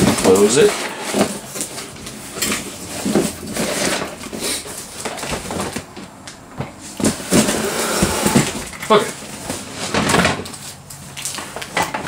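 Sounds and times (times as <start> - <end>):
cardboard scraping and rubbing: 0.1 - 5.8, 6.8 - 10.8.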